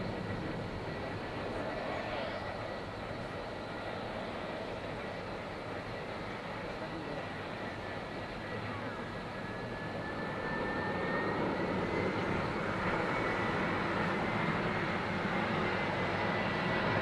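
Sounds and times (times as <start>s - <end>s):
jet engines rushing with high whine: 0.0s - 17.0s.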